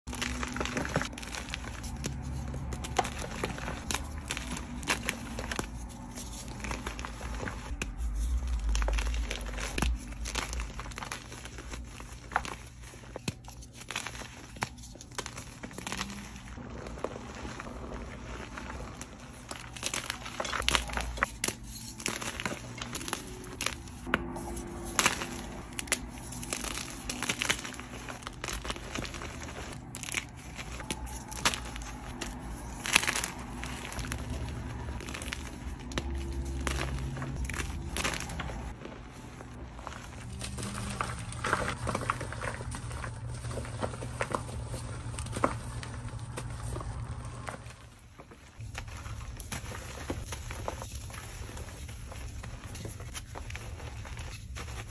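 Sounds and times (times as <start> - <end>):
chalk crunching by hand: 0.0 - 47.8
chalk crackling and snapping: 0.0 - 54.9.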